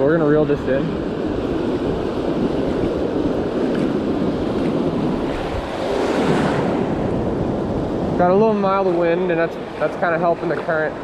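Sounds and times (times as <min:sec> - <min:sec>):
surf washing over sand: 0:00.0 - 0:11.0
wind on microphone: 0:00.0 - 0:11.0.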